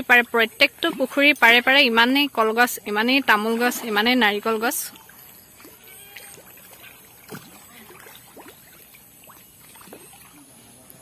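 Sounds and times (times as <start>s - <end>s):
soft water sounds: 0.0s - 11.0s.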